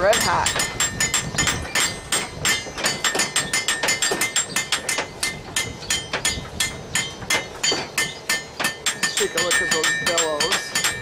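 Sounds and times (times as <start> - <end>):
hammer striking iron on anvil: 0.0 - 11.0.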